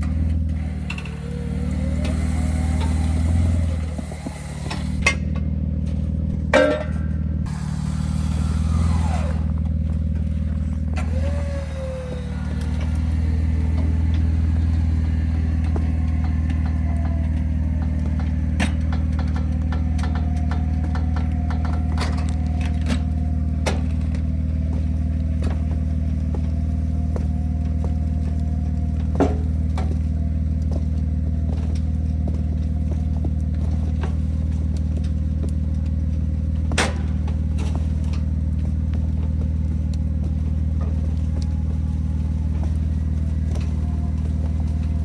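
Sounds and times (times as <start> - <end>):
vehicle engine idling: 0.0 - 45.0.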